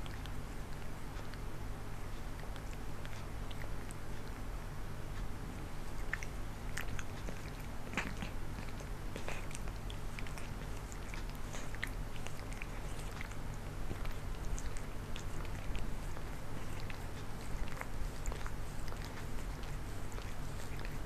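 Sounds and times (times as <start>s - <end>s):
cat licking fur: 0.0s - 21.0s
steady low hum: 0.0s - 21.0s.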